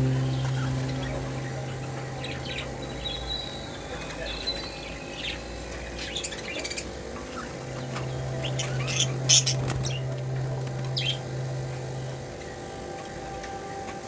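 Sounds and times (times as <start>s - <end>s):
budgerigars chirping: 0.0s - 12.2s
low hum: 0.0s - 13.8s.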